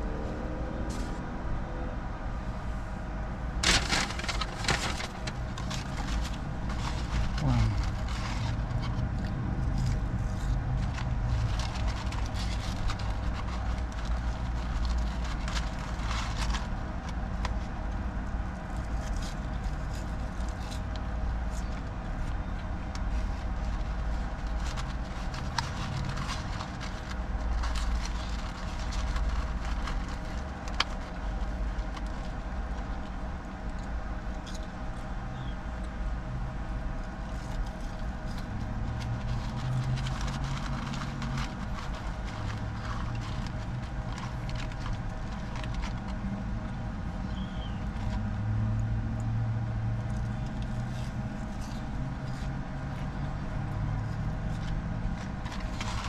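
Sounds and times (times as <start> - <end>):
constant tonal hum: 0.0 - 56.0
electric car low rumble: 0.0 - 56.0.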